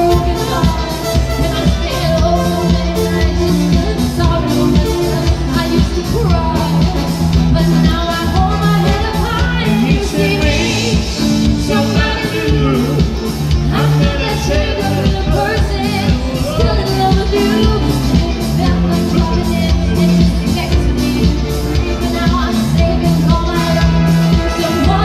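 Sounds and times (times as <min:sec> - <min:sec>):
bass line: 0:00.0 - 0:25.0
keyboard accompaniment: 0:00.0 - 0:25.0
steady drum beat: 0:00.0 - 0:25.0
woman singing into microphone: 0:00.0 - 0:25.0.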